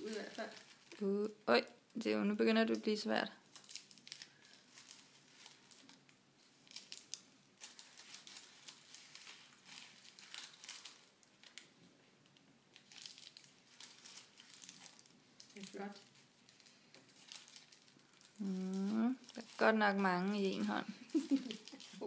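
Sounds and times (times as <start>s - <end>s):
cards crinkling and rustling: 0.0s - 1.0s, 3.4s - 22.0s.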